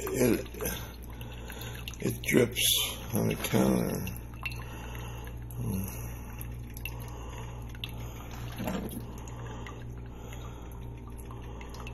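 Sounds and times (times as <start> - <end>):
coffee maker dripping: 0.0 - 11.9.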